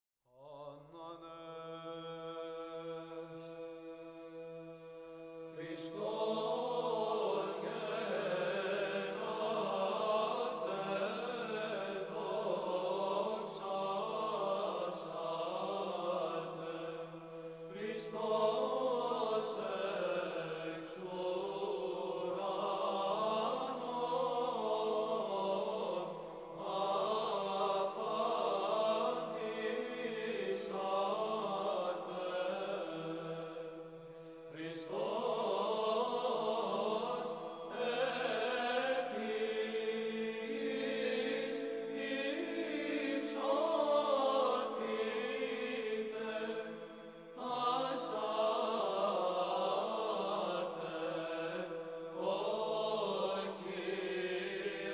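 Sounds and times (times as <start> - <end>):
voices singing a melody: 0.4 - 54.9.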